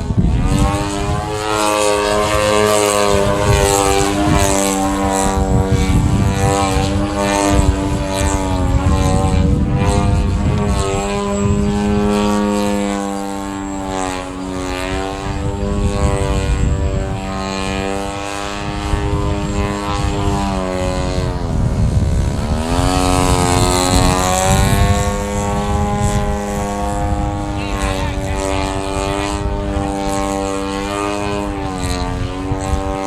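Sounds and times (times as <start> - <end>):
model plane propeller drone: 0.0 - 33.0.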